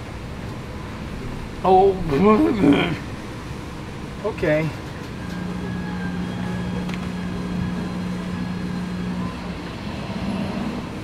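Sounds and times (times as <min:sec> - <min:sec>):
low background rumble: 0:00.0 - 0:11.0
steady low-pitched hum: 0:00.0 - 0:11.0.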